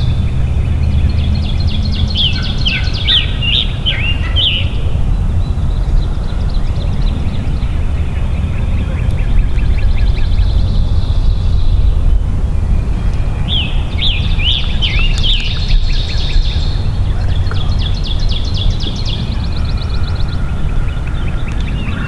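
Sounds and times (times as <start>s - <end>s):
songbirds singing: 0.0s - 22.0s
steady low rumble: 0.0s - 22.0s.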